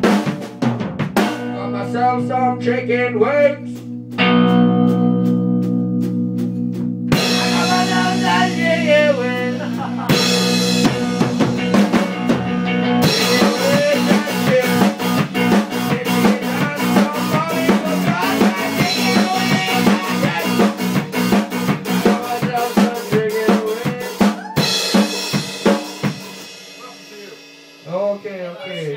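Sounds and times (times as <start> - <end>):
drum kit beat: 0.0 - 28.9
guitar: 0.0 - 28.9.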